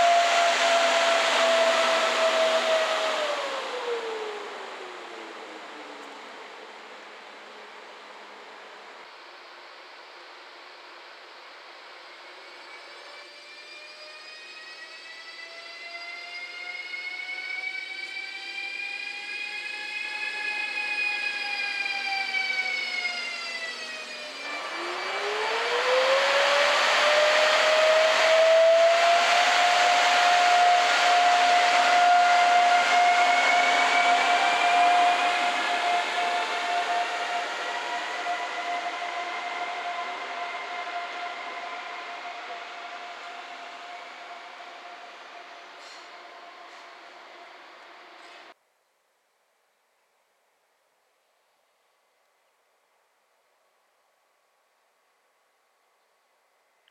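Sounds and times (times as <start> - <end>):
electric locomotive whine: 0.0 - 48.6.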